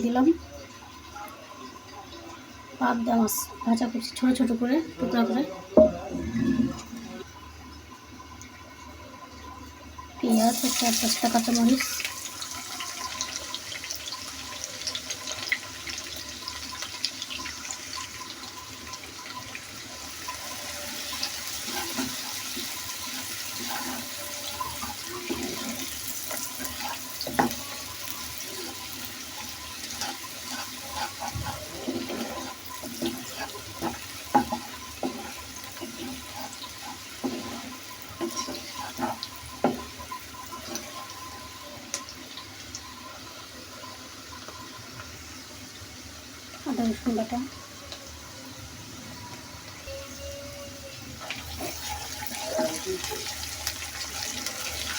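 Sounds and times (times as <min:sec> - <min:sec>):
food sizzling in hot oil: 0:07.3 - 0:54.9.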